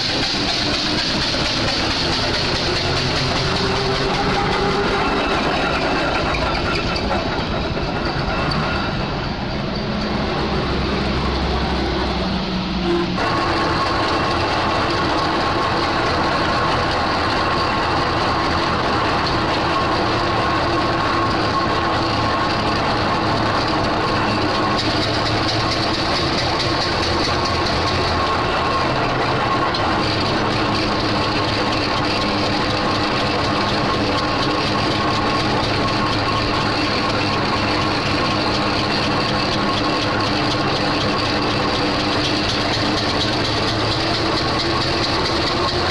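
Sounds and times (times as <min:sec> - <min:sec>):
steam engine clatter: 0:00.0 - 0:45.9.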